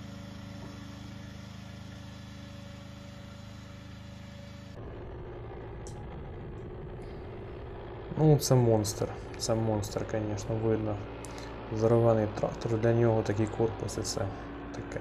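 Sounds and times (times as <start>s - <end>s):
noisy tractor engine: 0.0s - 15.0s
tractor engines running: 0.0s - 15.0s.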